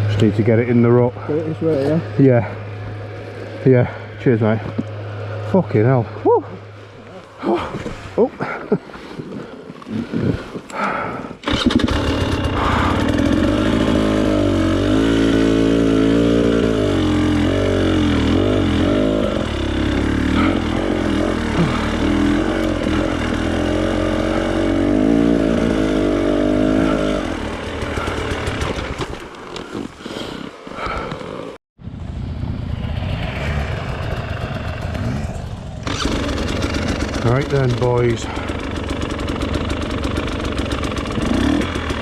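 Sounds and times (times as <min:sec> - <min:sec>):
trail motorcycle engine revving: 0:00.0 - 0:08.6, 0:09.8 - 0:42.0.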